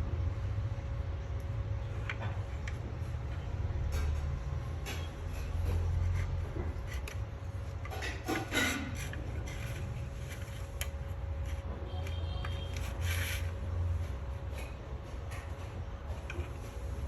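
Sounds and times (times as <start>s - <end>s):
steady low hum: 0.0s - 17.0s
rubbing and scraping with clicks: 2.0s - 17.0s.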